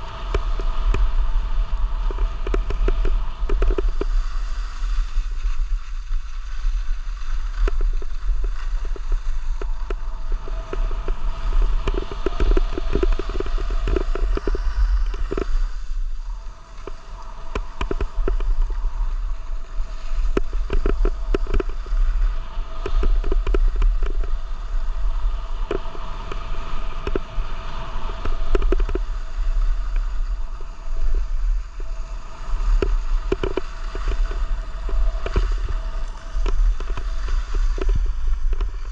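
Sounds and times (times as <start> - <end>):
skis scraping over snow: 0.0 - 38.9
wind rumbling on microphone: 0.0 - 38.9.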